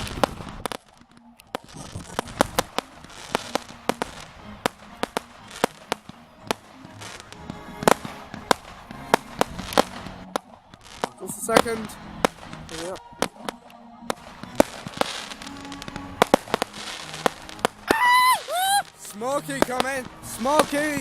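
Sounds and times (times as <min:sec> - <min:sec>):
faint music: 0:00.0 - 0:21.0
fireworks bangs and cracks: 0:00.0 - 0:21.0.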